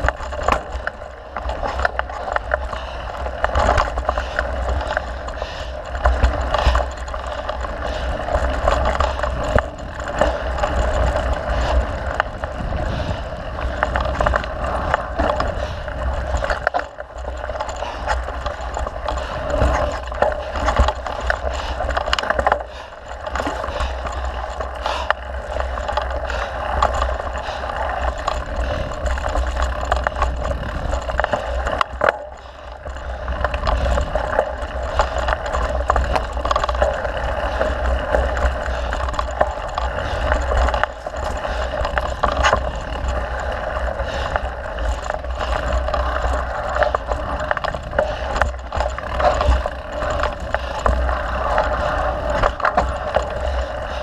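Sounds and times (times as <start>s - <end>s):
bike rattles and knocks: 0.0s - 54.0s
bike tyre noise: 0.0s - 54.0s
wind rumble on microphone: 0.0s - 54.0s.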